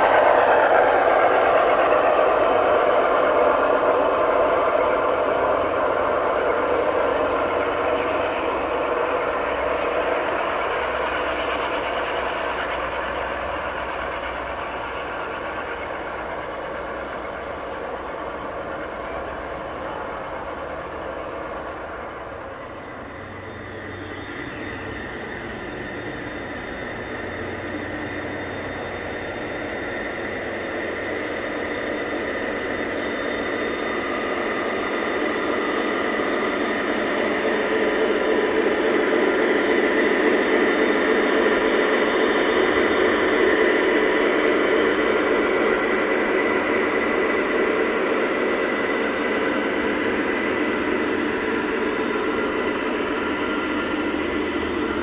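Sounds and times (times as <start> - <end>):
model locomotives rolling with whine: 0.0 - 55.0
model train cars rattling on track: 0.0 - 55.0.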